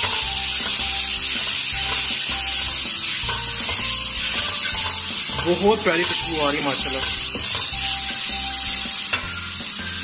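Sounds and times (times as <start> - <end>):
vegetables sizzling in pan: 0.0 - 10.0.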